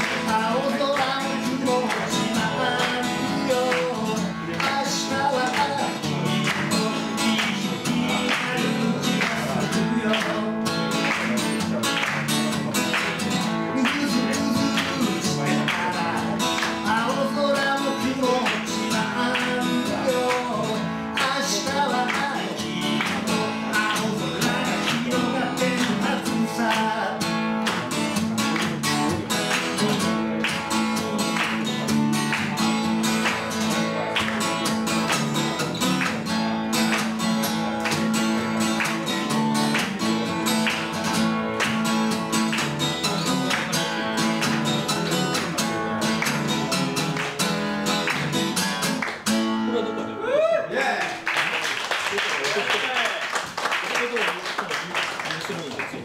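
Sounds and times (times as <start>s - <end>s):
acoustic guitar strumming: 0.0s - 50.3s.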